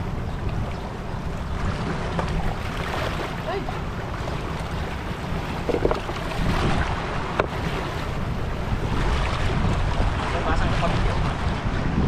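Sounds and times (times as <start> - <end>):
wind buffeting microphone: 0.0 - 12.0
waves washing against rocks: 1.2 - 12.0.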